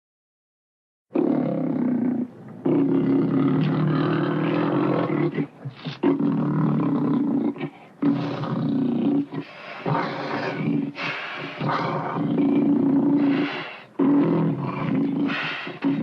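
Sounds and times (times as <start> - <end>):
leopard rough calls: 1.2 - 16.0.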